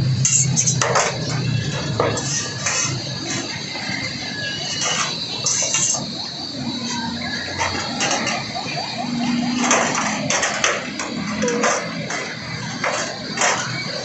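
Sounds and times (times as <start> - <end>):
metal clattering and scraping: 0.0 - 14.0.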